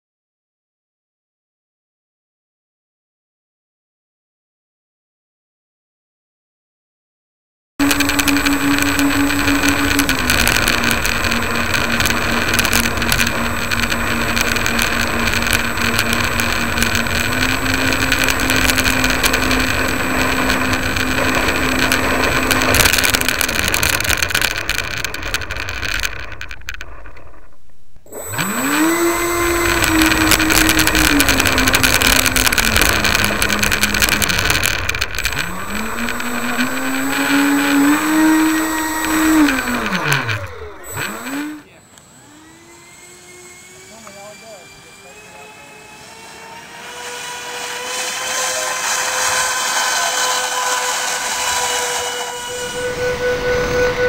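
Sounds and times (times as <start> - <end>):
model plane motors whining: 7.8 - 54.0.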